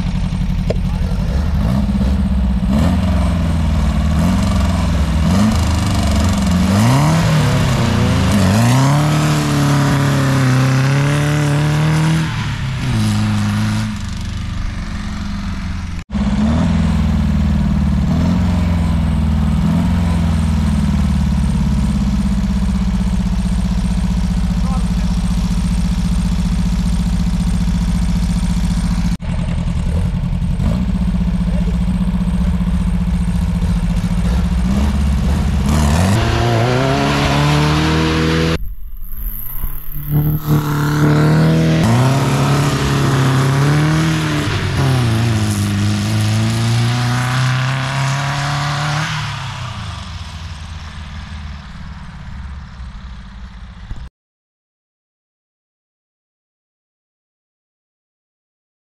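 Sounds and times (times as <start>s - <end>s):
buggy engine revving: 0.0s - 54.1s
buggy engines idling: 0.0s - 54.1s.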